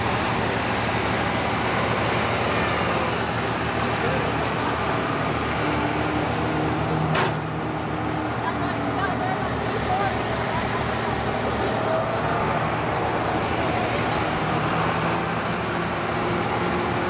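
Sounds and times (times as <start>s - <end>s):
vehicle engine noise: 0.0s - 17.0s.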